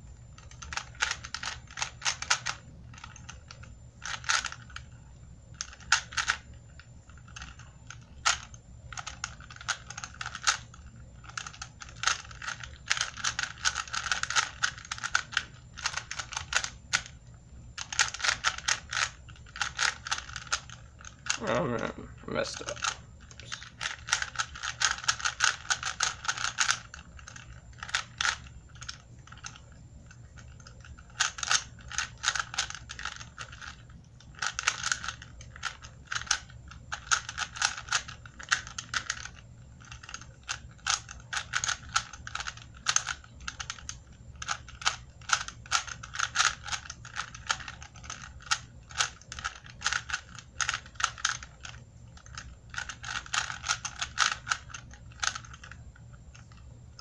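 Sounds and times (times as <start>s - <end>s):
puzzle cube clicking: 0.4s - 4.9s, 5.6s - 6.5s, 7.2s - 17.1s, 17.8s - 21.4s, 22.6s - 57.0s.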